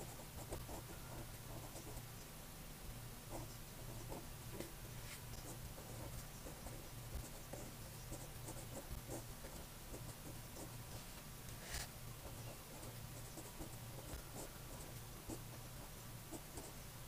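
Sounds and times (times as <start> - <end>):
pen scratching on paper: 0.0 - 2.0, 3.3 - 10.8, 11.6 - 16.8.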